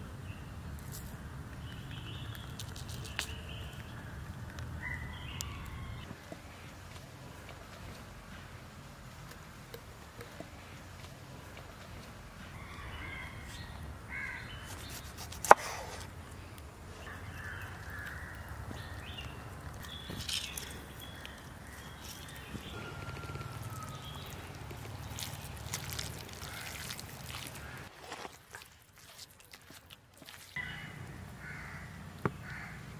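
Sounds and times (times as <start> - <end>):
birds calling: 0.3 - 28.3, 30.5 - 32.9.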